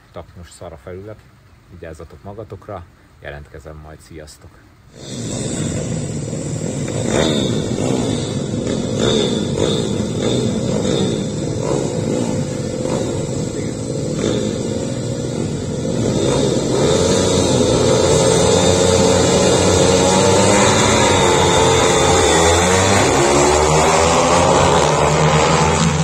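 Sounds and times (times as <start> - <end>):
motorcycle engines revving: 4.9 - 26.0.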